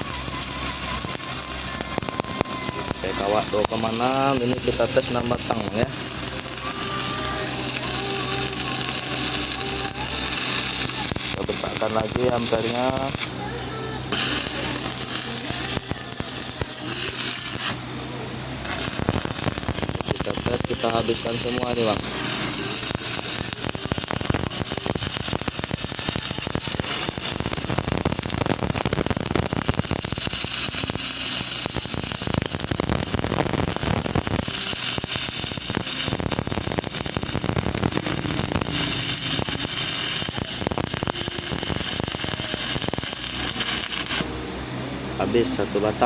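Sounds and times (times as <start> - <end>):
welding arc crackling: 0.0 - 46.0.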